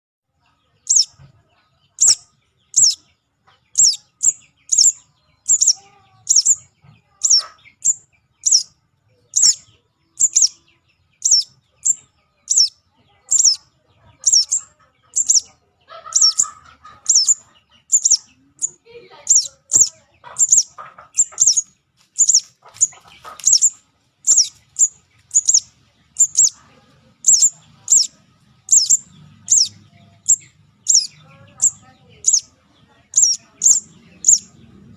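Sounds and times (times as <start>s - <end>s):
high-pitched bird chirps: 0.8s - 34.8s.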